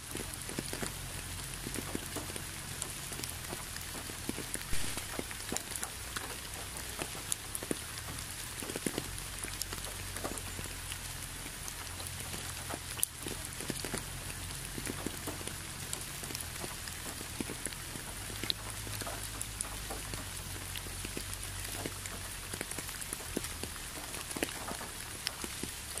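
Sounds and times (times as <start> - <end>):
rain hissing: 0.0 - 26.0
raindrops striking close by: 0.0 - 26.0.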